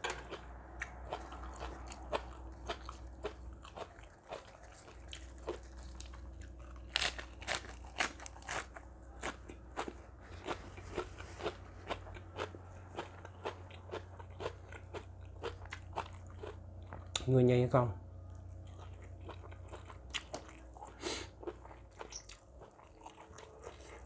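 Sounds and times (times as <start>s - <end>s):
person chewing crunchy food: 0.0s - 17.2s, 18.3s - 24.0s.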